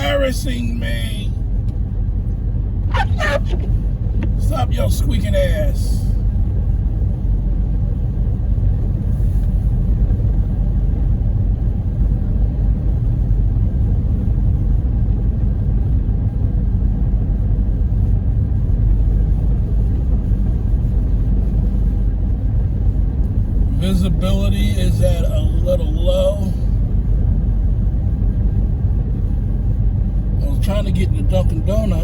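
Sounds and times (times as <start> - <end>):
car interior road rumble: 0.0 - 32.0.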